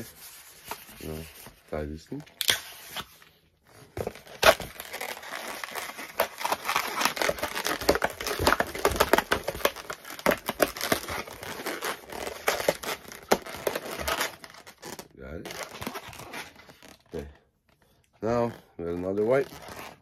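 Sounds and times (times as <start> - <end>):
balloons squeaking and crinkling: 0.0 - 20.0.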